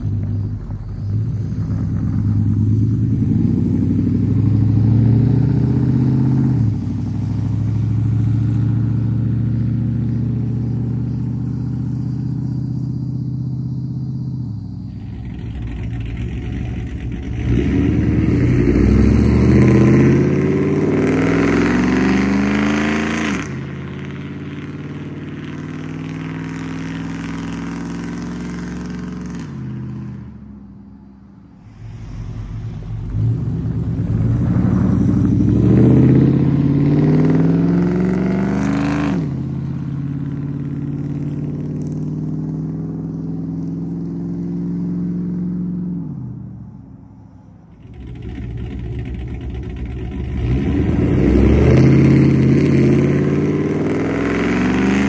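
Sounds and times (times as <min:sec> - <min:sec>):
pickup truck engine accelerating: 0:00.0 - 0:30.4, 0:31.5 - 0:46.7, 0:47.7 - 0:55.0.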